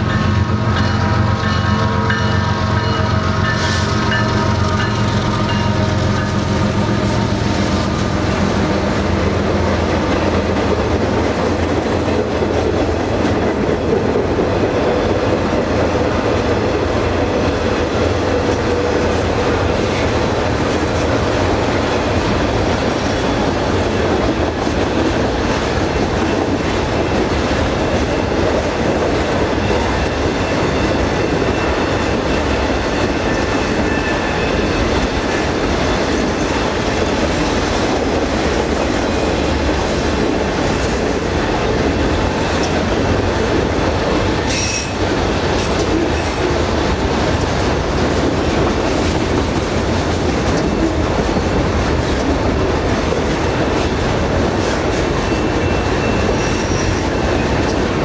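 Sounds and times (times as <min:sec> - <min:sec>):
diesel locomotive engine drone: 0:00.0 - 0:58.0
steel wheels clattering on rails: 0:00.0 - 0:58.0.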